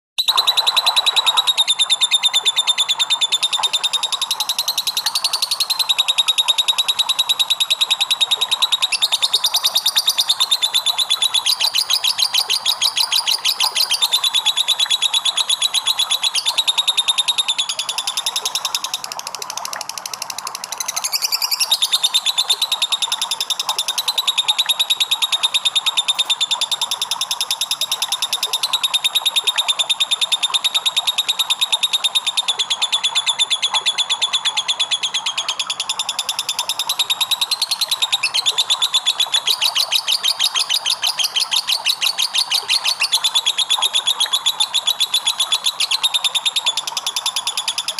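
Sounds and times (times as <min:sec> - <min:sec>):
lovebird chattering trill: 0:00.2 - 0:19.3, 0:20.3 - 0:47.9.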